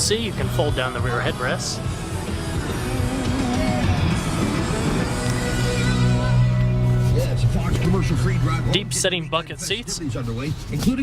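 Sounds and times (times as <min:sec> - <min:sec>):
song on car stereo: 0:00.0 - 0:11.0.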